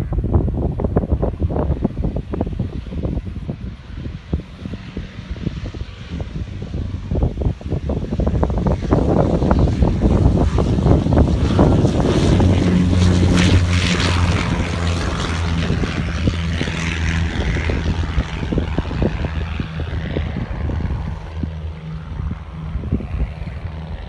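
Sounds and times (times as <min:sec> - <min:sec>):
propeller airplane drone: 0:00.0 - 0:24.0.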